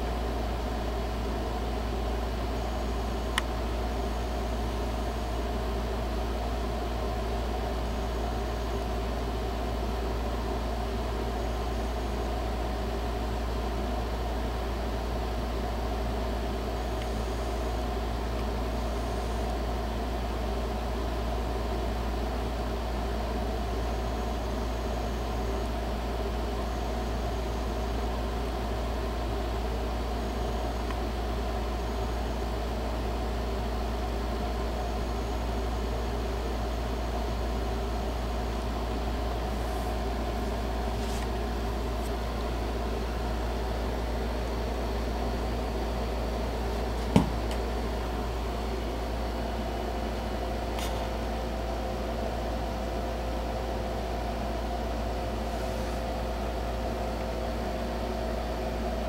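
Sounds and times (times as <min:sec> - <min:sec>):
low mechanical hum with hiss: 0:00.0 - 0:59.0.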